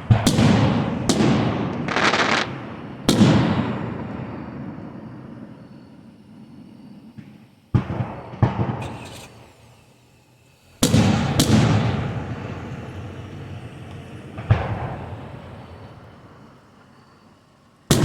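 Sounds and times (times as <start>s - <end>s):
fireworks booming: 0.0s - 18.0s
fireworks crackle: 0.0s - 18.0s
rolling rumble: 0.0s - 18.0s.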